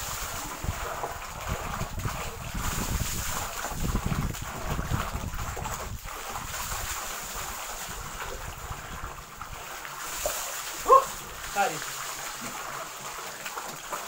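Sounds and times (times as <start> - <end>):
wind rumbling on microphone: 0.0 - 11.5
water gushing from a pipe: 0.0 - 14.0
water splashing: 0.0 - 14.0.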